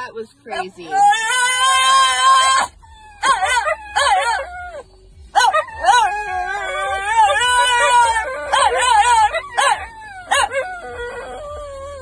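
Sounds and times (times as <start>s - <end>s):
dog howling and whining: 0.9s - 12.0s.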